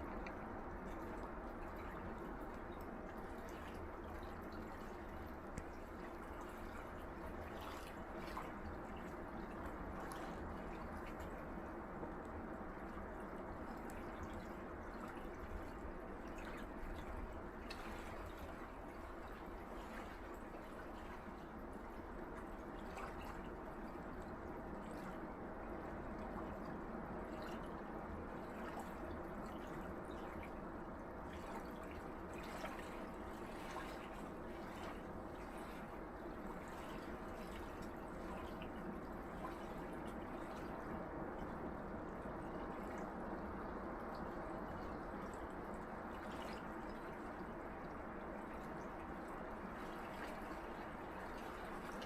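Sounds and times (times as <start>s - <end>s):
faint water crackles: 0.0s - 52.0s.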